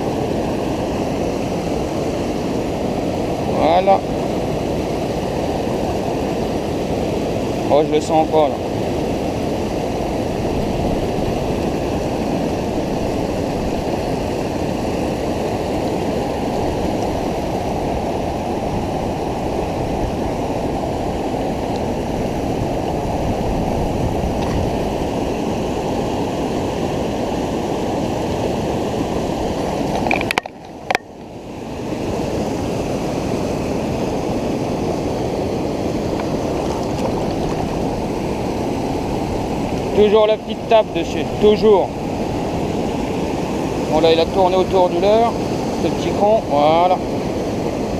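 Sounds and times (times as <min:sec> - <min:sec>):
river rushing over weir: 0:00.0 - 0:47.9.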